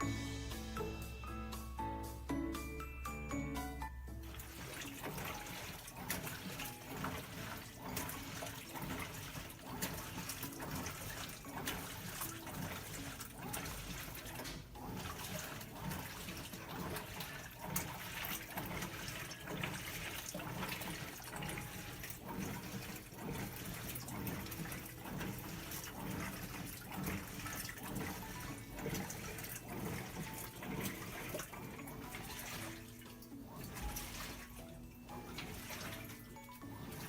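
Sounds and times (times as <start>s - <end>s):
washing machine water churning: 0.0s - 37.0s.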